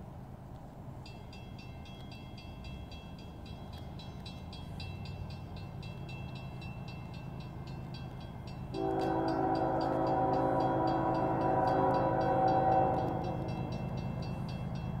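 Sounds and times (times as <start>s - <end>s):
train rumbling: 0.0s - 15.0s
grade-crossing bell dinging: 1.0s - 15.0s.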